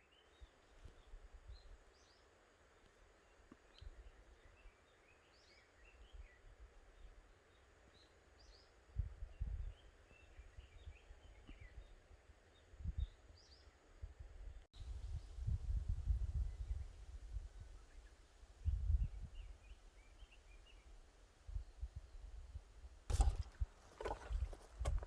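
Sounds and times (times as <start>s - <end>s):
small birds chirping: 0.0s - 22.3s.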